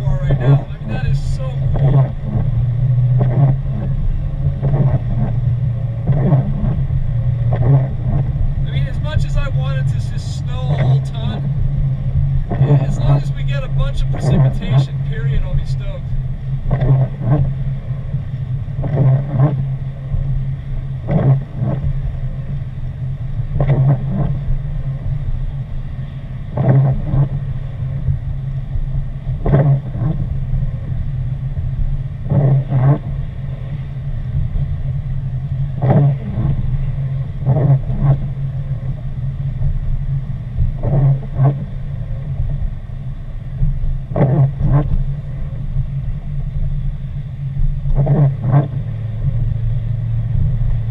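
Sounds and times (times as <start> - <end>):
car driving on wet road: 0.0 - 50.9
windshield wipers sweeping: 0.0 - 50.9.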